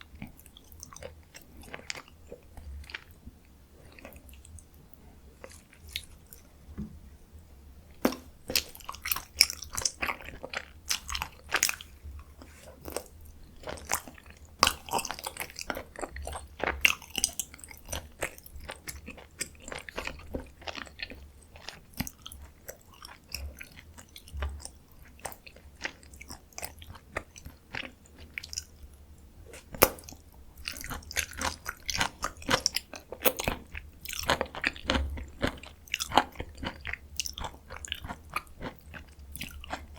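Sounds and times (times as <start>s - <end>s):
close-miked chewing: 0.0s - 6.5s, 8.0s - 39.9s.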